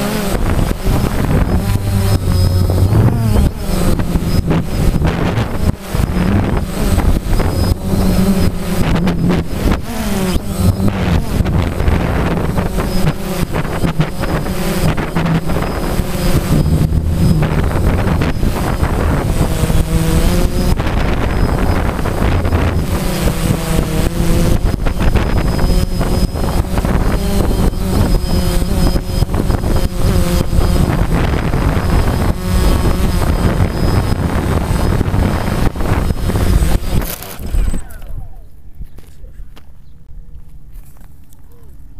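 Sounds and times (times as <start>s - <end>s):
drone propellers buzzing: 0.0s - 38.4s
wind buffeting microphone: 0.0s - 39.0s.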